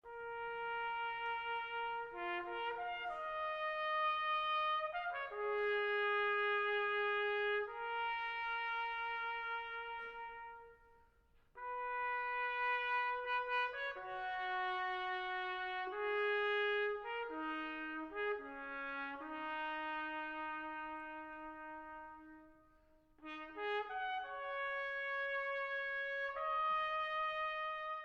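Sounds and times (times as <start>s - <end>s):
trumpet-led brass music: 0.0s - 28.0s.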